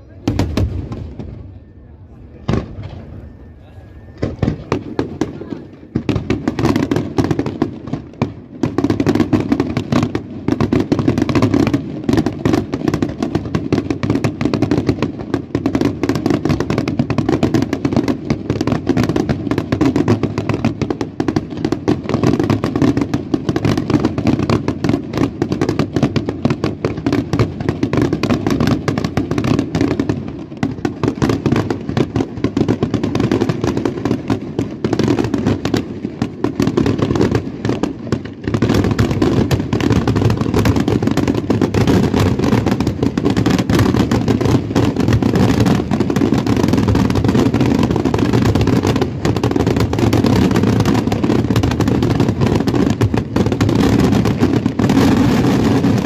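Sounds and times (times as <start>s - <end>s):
fireworks bursts and crackling: 0.0s - 56.0s.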